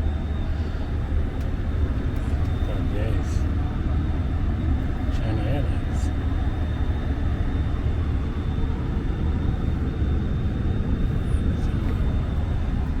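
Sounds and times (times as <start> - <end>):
wind and aircraft machinery rumble: 0.0 - 13.0.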